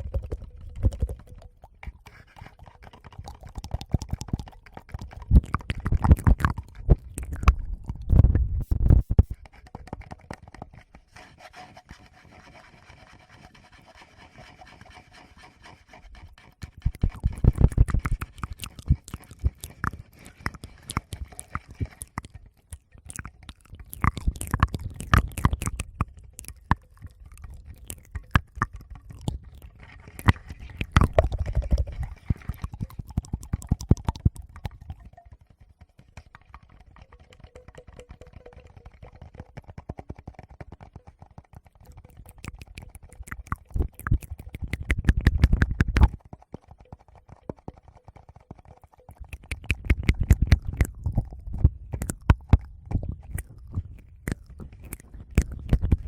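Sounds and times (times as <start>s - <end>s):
wet mouth clicks: 0.0s - 10.9s, 16.1s - 56.0s
fingers tapping on microphones: 2.9s - 10.8s, 16.8s - 56.0s.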